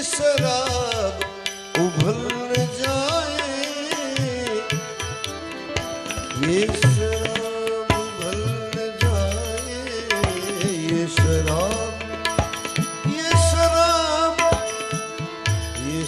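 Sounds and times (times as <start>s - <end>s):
tabla: 0.0s - 16.0s.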